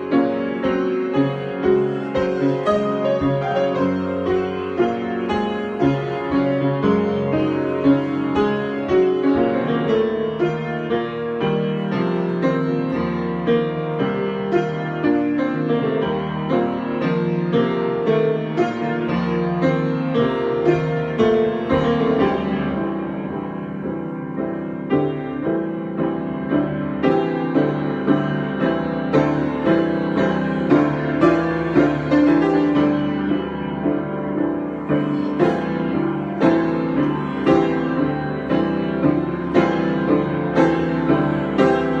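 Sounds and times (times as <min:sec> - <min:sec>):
solo piano playing: 0:00.0 - 0:42.0.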